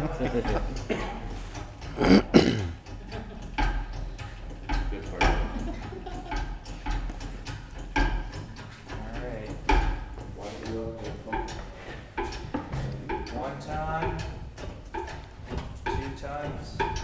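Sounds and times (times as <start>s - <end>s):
hydraulic press pump clicks: 0.4s - 17.0s.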